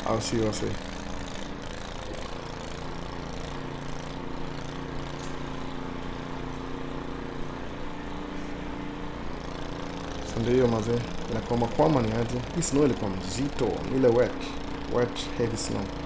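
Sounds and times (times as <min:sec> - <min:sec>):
snowblower engine running: 0:00.0 - 0:16.0.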